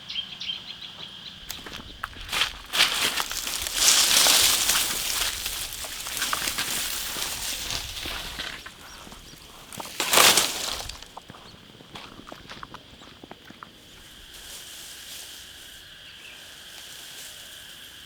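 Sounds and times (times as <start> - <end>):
dry leaves rustling and crunching: 1.4 - 18.0.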